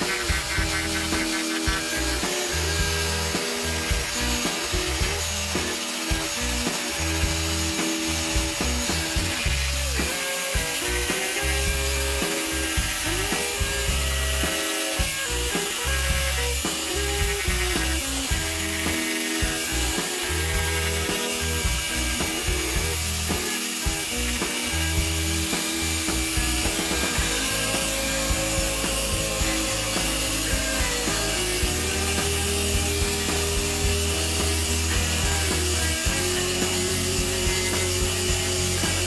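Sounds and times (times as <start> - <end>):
background music: 0.0 - 39.0
grinder cutter rasping wood: 0.0 - 39.0.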